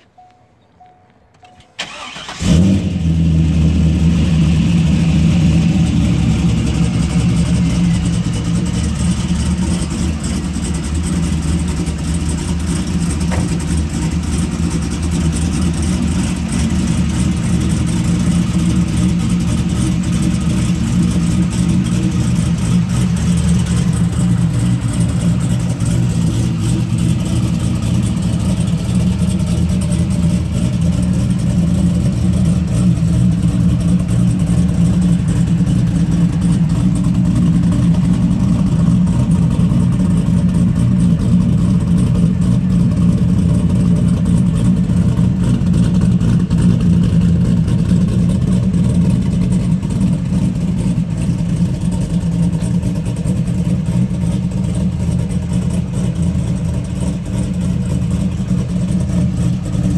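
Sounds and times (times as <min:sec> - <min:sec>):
car engine starting and idling: 0:00.0 - 0:59.9.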